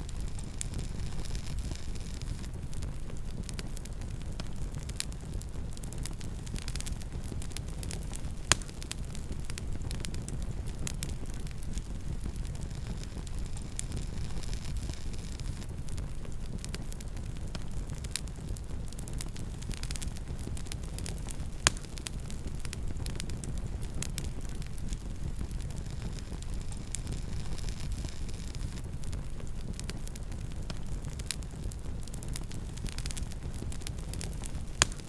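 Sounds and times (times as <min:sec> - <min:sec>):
campfire crackling: 0:00.0 - 0:35.0
fire low rumble: 0:00.0 - 0:35.0.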